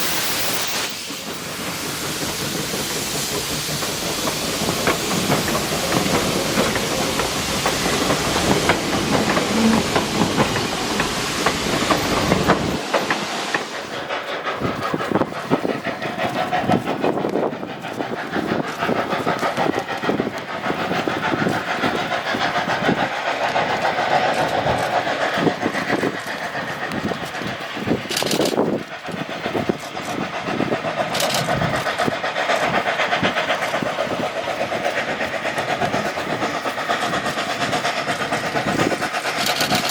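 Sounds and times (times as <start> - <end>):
steam hissing: 0.0 - 39.9
train wheels clicking over rail joints: 0.0 - 39.9.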